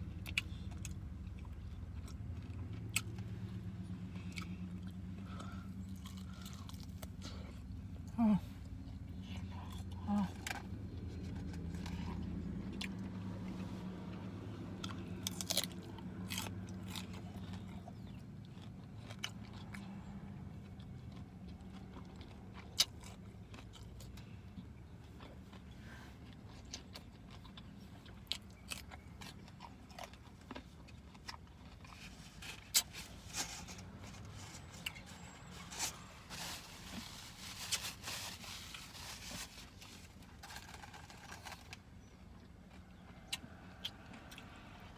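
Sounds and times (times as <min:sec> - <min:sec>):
low steady hum: 0:00.0 - 0:44.9
person chewing and crunching food: 0:00.0 - 0:44.9.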